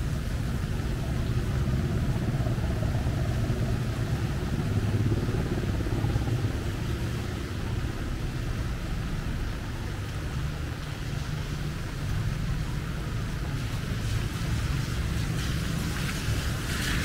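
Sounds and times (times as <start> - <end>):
faint hiss of rain: 0.0 - 17.0
motor traffic: 0.0 - 17.0.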